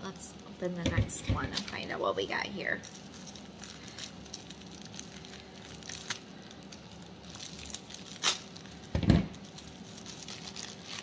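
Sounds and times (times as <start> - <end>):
plastic wrapping crinkling: 0.3 - 11.0.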